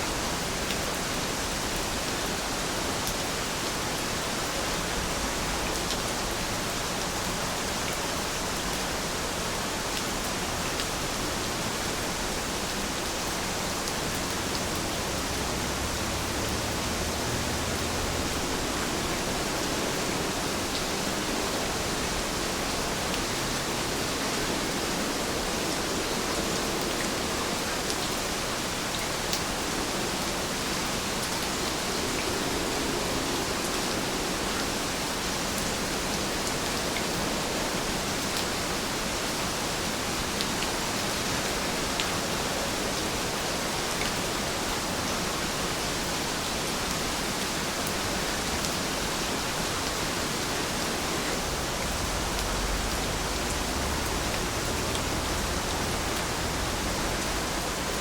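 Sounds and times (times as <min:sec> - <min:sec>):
sharp ticks of rain: 0:00.0 - 0:58.0
steady rain: 0:00.0 - 0:58.0.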